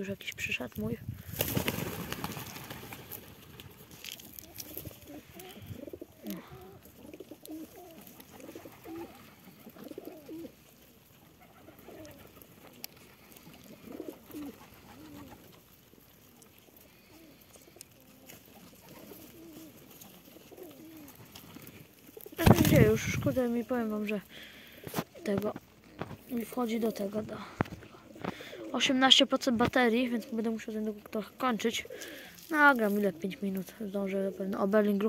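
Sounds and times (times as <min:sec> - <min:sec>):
pigeons cooing: 0:01.3 - 0:29.2, 0:29.8 - 0:35.0.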